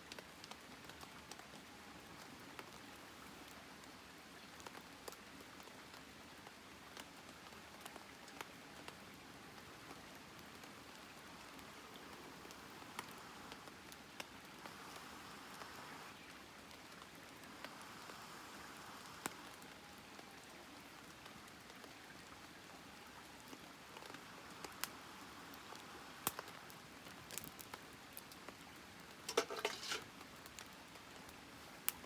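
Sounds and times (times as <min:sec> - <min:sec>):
campfire crackling and popping: 0:00.0 - 0:03.9, 0:04.6 - 0:19.8, 0:22.2 - 0:32.0.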